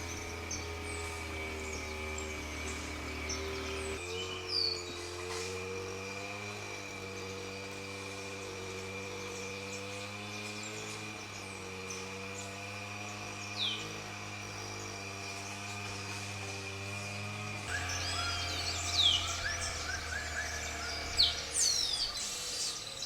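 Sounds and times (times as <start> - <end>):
low droning hum: 0.0 - 22.9
descending bird call: 0.0 - 23.0.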